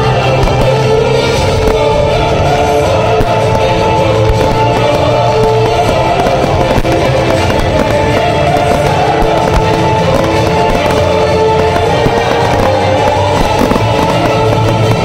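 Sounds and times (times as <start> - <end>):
fireworks popping and crackling: 0.0 - 15.0
music playing: 0.0 - 15.0.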